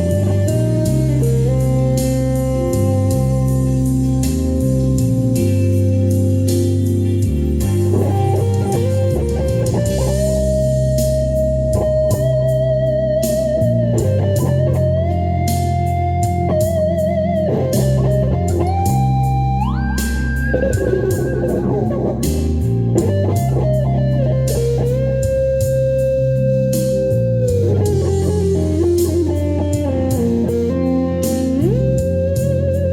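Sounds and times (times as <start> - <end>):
backing track of drums and bass: 0.0 - 32.9
electric guitar lead melody: 0.0 - 32.9.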